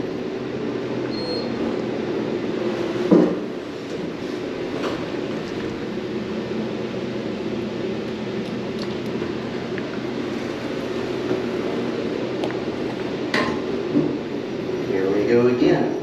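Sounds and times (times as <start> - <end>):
elevator mechanical hum: 0.0 - 16.0.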